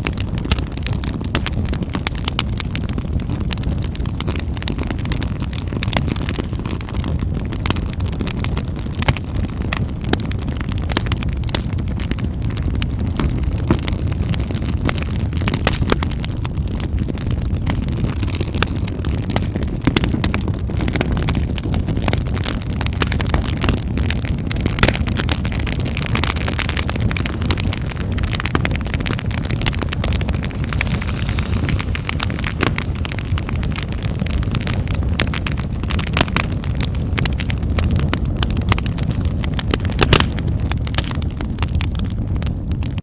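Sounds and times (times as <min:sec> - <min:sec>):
low rumble of burning: 0:00.0 - 0:43.0
wood fire crackling and popping: 0:00.0 - 0:43.0.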